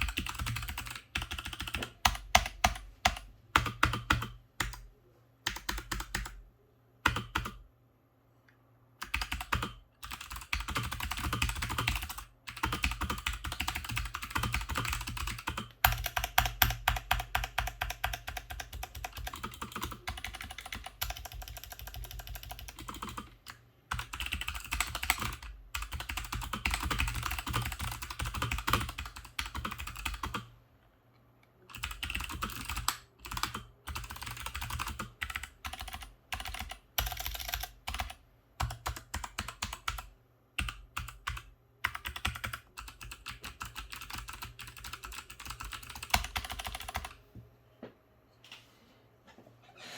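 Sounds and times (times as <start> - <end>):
clicky mechanical keyboard typing: 0.0 - 4.9, 5.5 - 6.4, 7.0 - 7.6, 9.0 - 30.5, 31.6 - 47.2.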